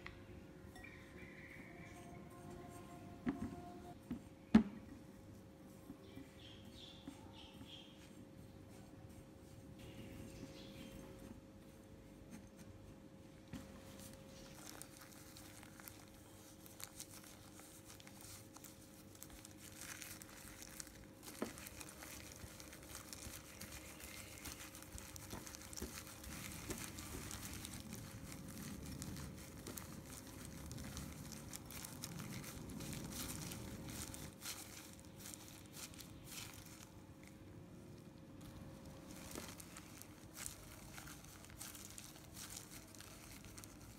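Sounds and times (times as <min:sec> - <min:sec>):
faint steady hum: 0:00.0 - 0:43.9
plastic glove crinkling: 0:01.4 - 0:04.2, 0:05.1 - 0:43.9.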